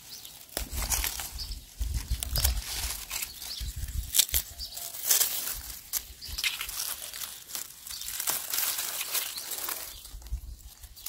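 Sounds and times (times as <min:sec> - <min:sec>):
herbs rustling and crackling: 0:00.0 - 0:11.0.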